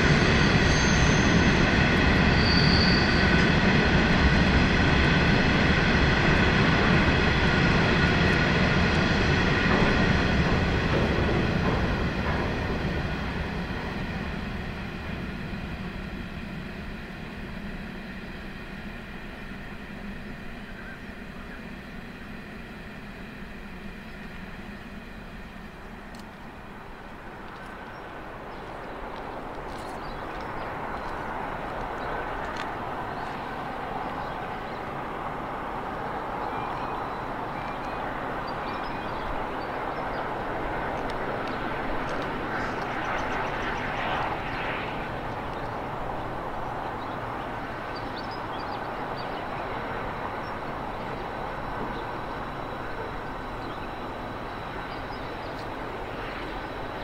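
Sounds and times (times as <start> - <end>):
distant diesel locomotive drone: 0.0 - 57.0.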